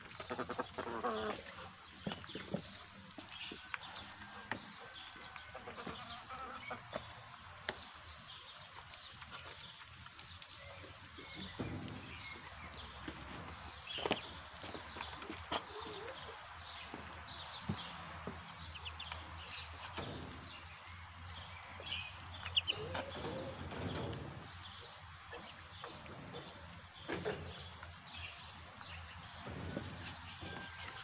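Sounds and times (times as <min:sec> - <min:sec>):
ducklings peeping: 0:00.0 - 0:31.0.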